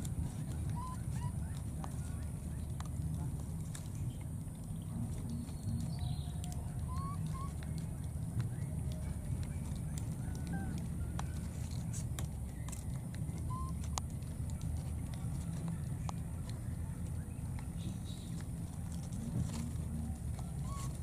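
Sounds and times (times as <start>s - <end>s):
dry palm fronds crackling: 0.0s - 21.0s.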